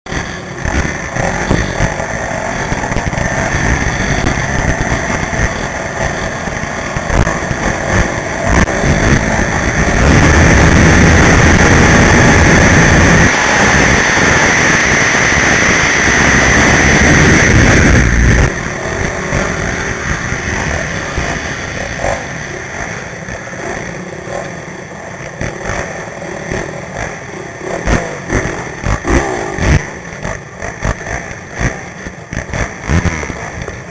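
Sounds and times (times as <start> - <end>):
quad engines revving: 0.1 - 33.9.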